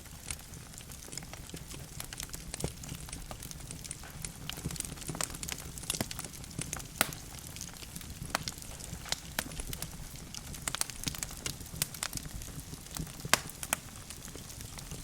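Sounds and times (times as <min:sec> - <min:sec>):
logs crackling in a fireplace: 0:00.0 - 0:15.0
low rumble of flames: 0:00.0 - 0:15.0.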